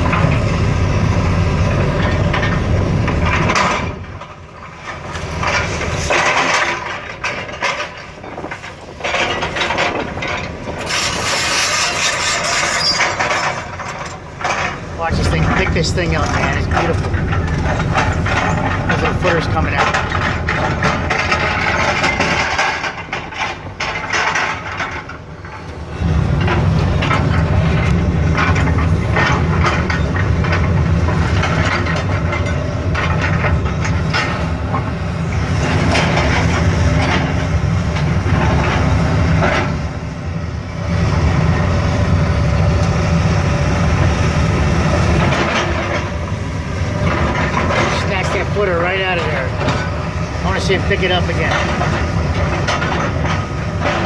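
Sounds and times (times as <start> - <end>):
excavator bucket clanking and scraping: 0.0 - 54.0
excavator diesel engine working: 0.0 - 54.0.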